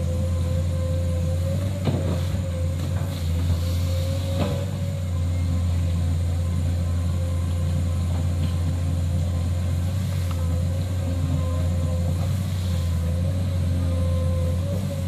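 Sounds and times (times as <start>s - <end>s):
excavator diesel engine under load: 0.0s - 15.0s
steady whine: 0.0s - 15.0s.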